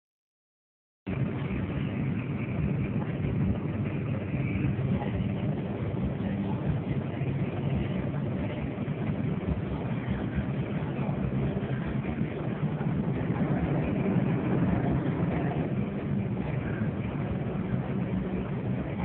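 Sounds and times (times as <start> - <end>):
car cabin engine and road hum: 1.1 - 19.0.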